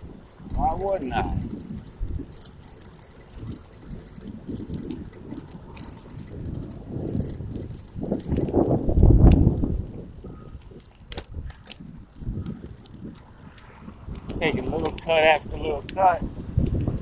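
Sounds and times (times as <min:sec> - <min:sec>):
bicycle ride rumble: 0:00.0 - 0:17.0
light rattling: 0:00.0 - 0:17.0.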